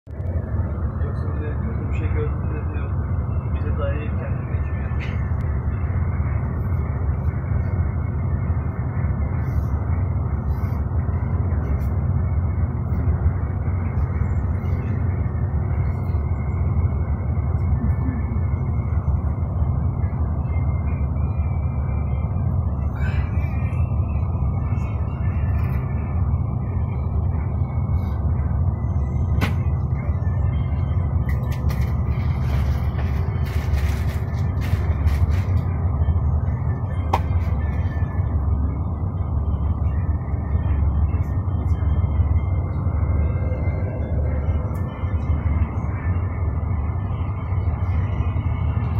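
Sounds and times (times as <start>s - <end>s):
coach engine and tyre rumble: 0.0s - 48.9s.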